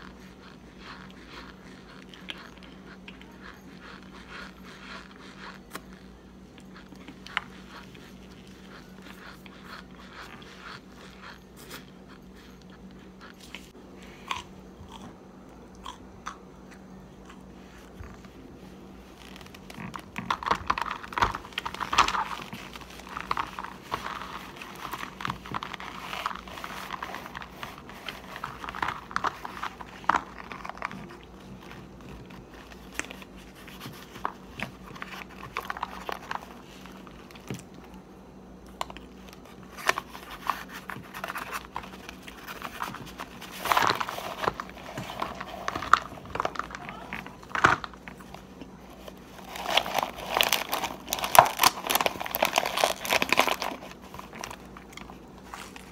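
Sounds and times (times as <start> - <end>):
crunching and chewing cornstarch: 0.0 - 55.9.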